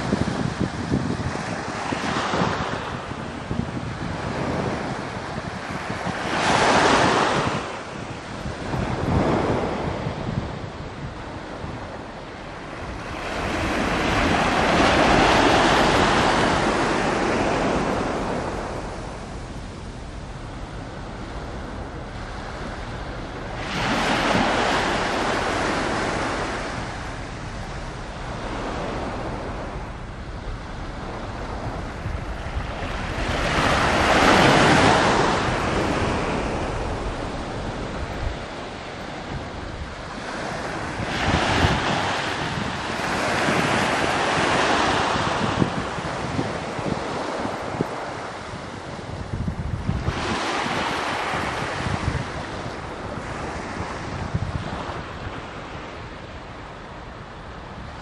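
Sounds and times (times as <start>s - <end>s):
sea waves washing ashore: 0.0s - 58.0s
wind rumble on microphone: 0.0s - 58.0s.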